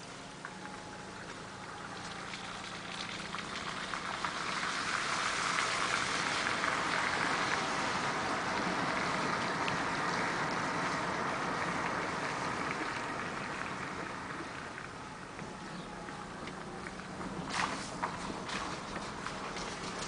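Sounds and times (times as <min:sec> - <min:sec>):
steady rain falling: 0:00.0 - 0:20.0
raindrop spatters: 0:00.3 - 0:20.0.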